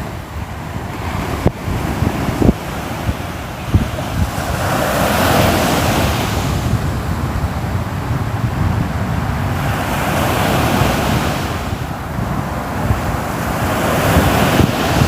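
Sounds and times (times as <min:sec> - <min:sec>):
low rumble of sea: 0:00.0 - 0:15.0
ocean waves breaking: 0:00.0 - 0:15.0.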